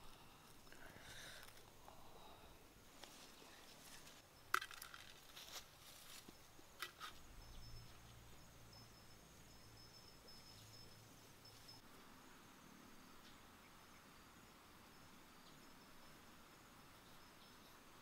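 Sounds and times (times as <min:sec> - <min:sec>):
faint high insect trill: 0:00.0 - 0:18.0.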